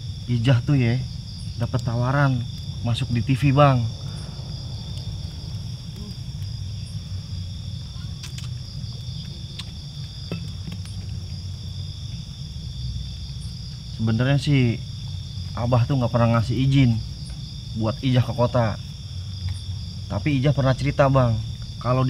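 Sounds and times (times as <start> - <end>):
campfire snaps: 0.0 - 21.9
crickets chirping: 0.0 - 22.0
steady low rumble: 0.0 - 22.0.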